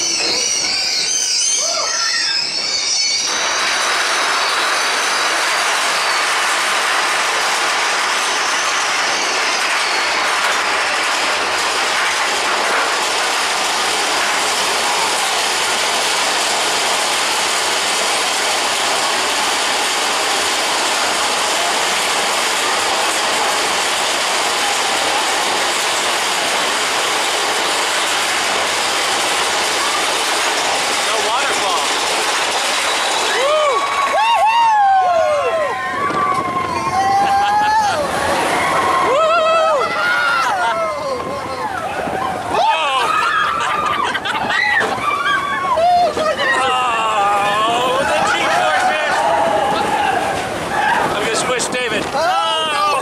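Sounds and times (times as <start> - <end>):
roller coaster cars rattling on track: 0.0 - 53.0.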